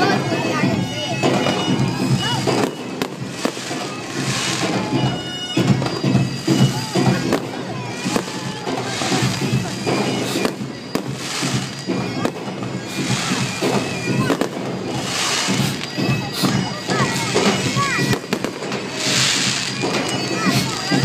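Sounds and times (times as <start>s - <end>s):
bagpipes playing droning tune: 0.0s - 21.0s
firework bangs: 0.0s - 21.0s
crackling firework hiss: 0.1s - 21.0s.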